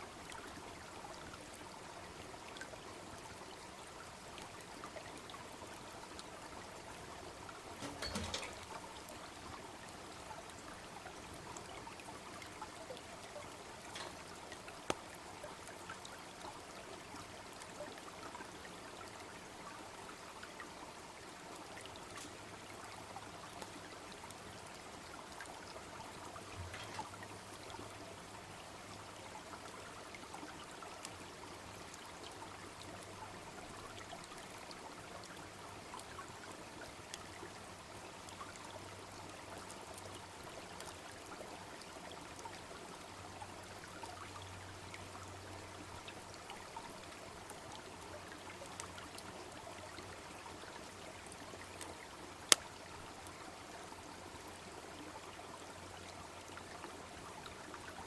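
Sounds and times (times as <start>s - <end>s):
brook babbling: 0.0s - 58.0s.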